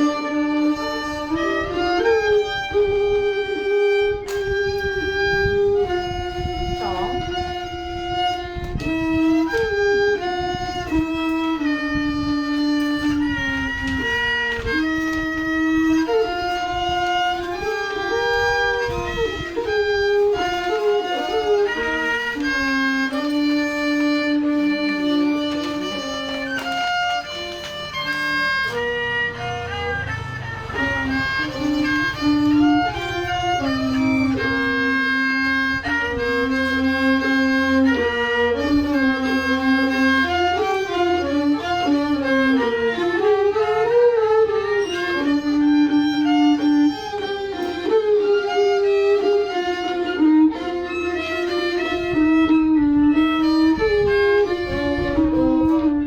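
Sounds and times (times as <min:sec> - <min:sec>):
bowed string instrument melody: 0:00.0 - 0:56.0.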